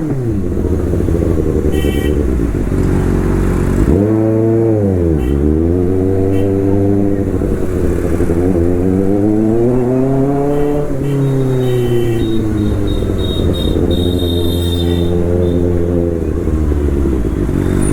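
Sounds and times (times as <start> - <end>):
motorcycle engine revving: 0.0 - 17.9.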